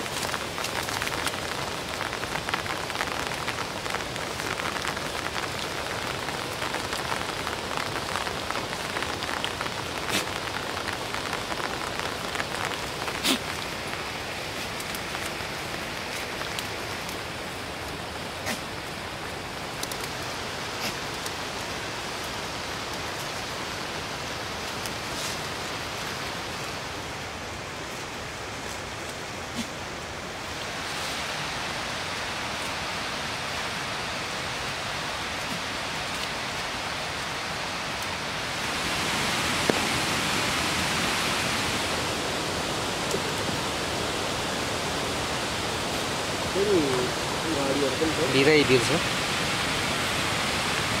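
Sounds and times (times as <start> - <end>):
rushing water: 0.0 - 51.0.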